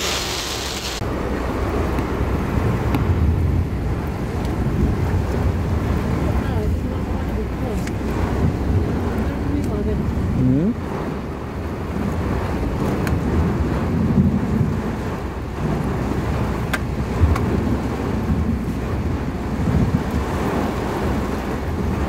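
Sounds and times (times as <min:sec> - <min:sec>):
heavy rain: 0:00.0 - 0:22.0
low rumble of road traffic: 0:00.0 - 0:22.0
wind buffeting microphone: 0:01.0 - 0:22.0.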